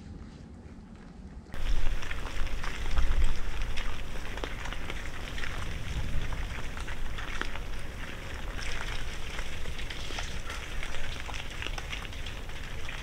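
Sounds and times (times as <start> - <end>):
hogs crunching corn: 1.6 - 13.0
low rumble: 1.6 - 13.0.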